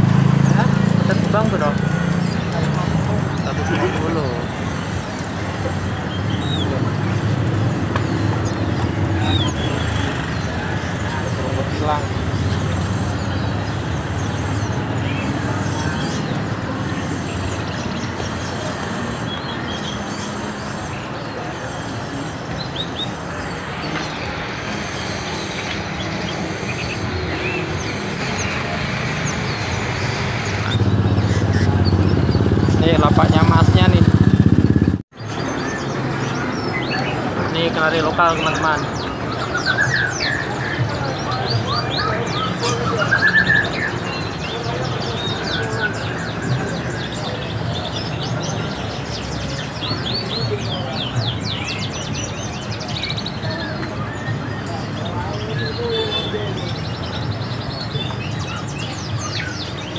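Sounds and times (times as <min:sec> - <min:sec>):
murmur of voices: 0:00.0 - 0:59.9
songbirds chirping: 0:00.0 - 0:59.9
traffic engine rumble: 0:00.0 - 0:59.9.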